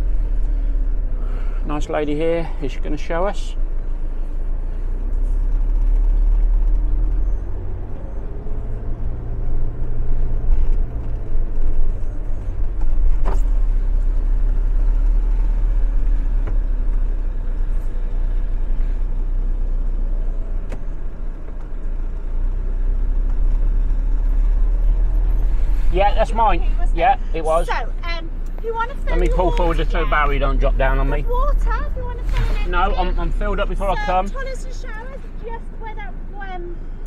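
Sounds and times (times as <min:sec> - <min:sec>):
motorhome engine rumbling: 0:00.0 - 0:37.0.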